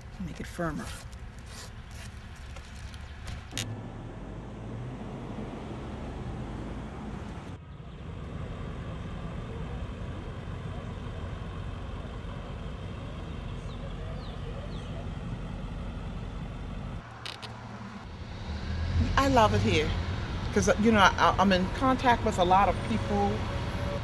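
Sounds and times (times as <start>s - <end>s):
traffic rumbling by: 0.0s - 24.0s.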